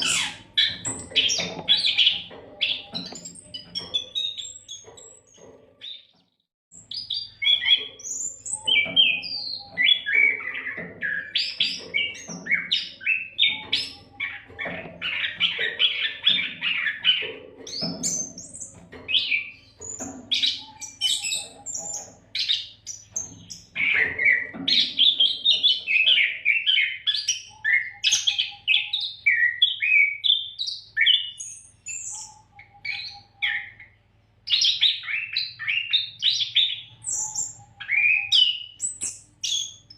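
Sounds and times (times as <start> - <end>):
bird singing whistles and trills: 0.0 - 6.1, 6.8 - 39.9.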